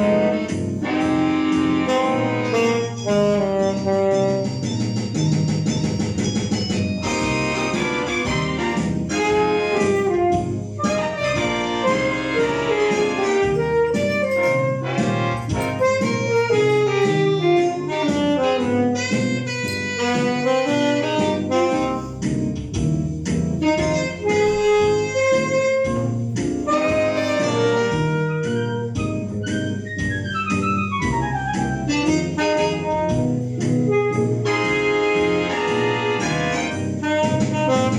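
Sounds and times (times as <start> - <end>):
alto saxophone fast runs: 0.0 - 4.7, 7.0 - 22.2, 23.6 - 29.1, 30.1 - 37.9.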